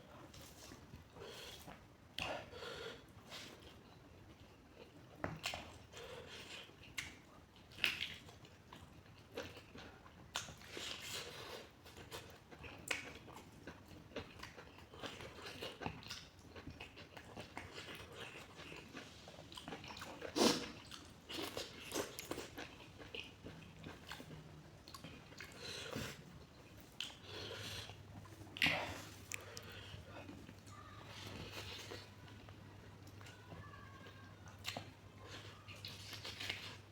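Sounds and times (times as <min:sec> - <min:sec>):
person chewing and mouth smacking: 0:00.1 - 0:36.9.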